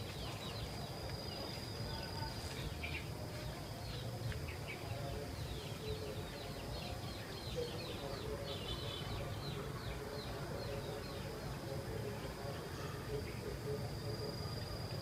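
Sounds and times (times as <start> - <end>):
birds chirping: 0.0 - 15.0
insect drone: 0.0 - 15.0.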